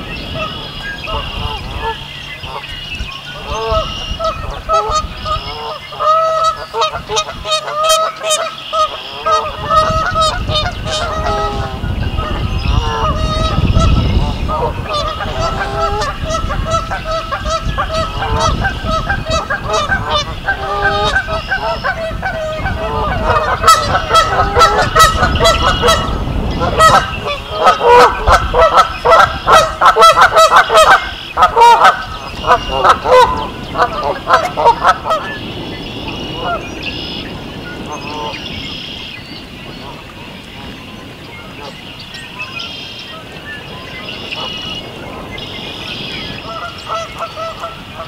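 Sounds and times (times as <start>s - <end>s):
geese honking: 0.0s - 48.0s.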